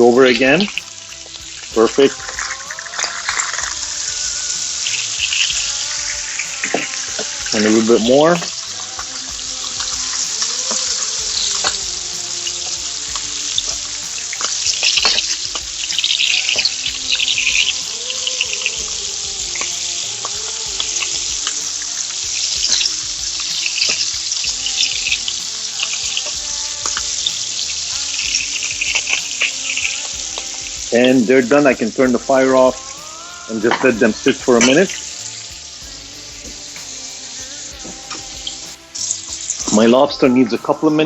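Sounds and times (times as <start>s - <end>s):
steaks sizzling in a frying pan: 0.0s - 40.8s.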